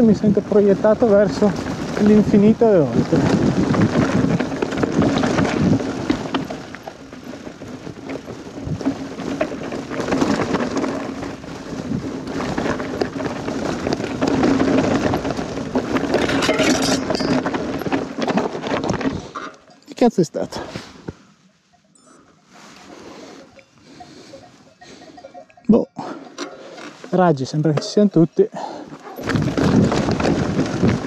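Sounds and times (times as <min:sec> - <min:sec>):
bike rattling: 0:00.0 - 0:31.0
bike tyres clattering over stones: 0:00.0 - 0:31.0.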